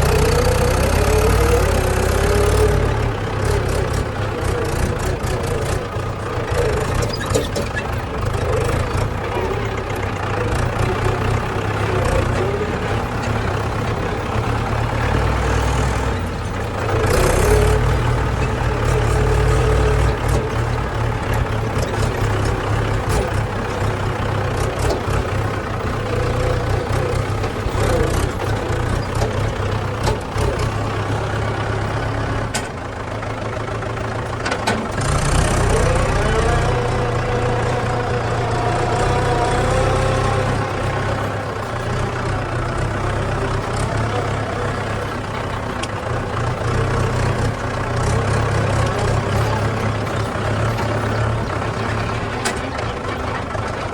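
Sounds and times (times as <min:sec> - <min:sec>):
backhoe diesel engine revving: 0:00.0 - 0:53.9.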